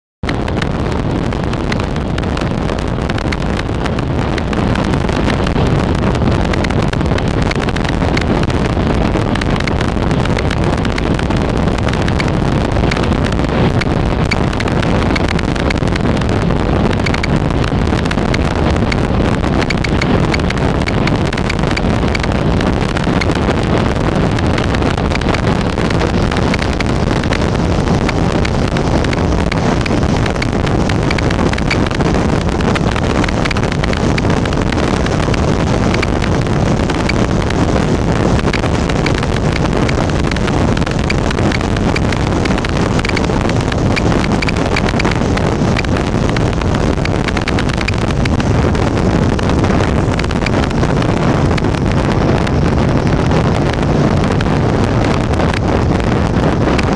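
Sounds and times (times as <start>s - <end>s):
motorcycle engine and tyre noise: 0.2s - 56.9s
wind buffeting microphone: 0.2s - 56.9s.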